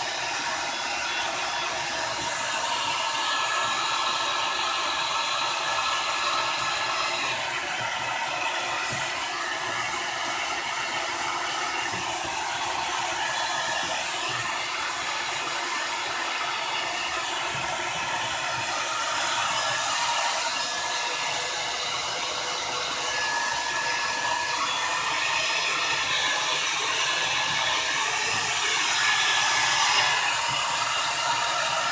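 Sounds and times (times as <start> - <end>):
hair dryer blowing: 0.0 - 31.9.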